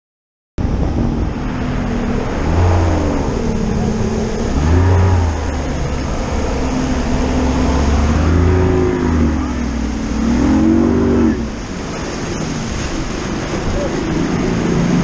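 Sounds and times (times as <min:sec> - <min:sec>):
rushing wind: 0:00.6 - 0:15.0
outboard motor running: 0:00.7 - 0:15.0.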